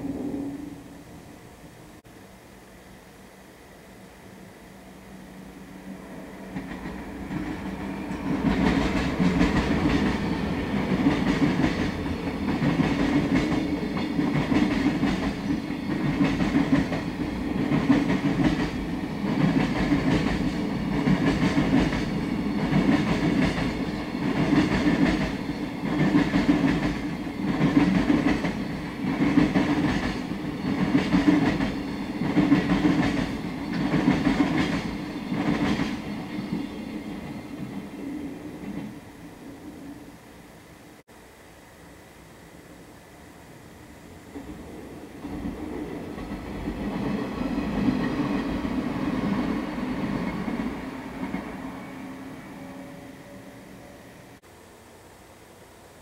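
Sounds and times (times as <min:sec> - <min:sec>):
rumble of train wheels on rail: 0:04.9 - 0:40.2, 0:43.8 - 0:54.4.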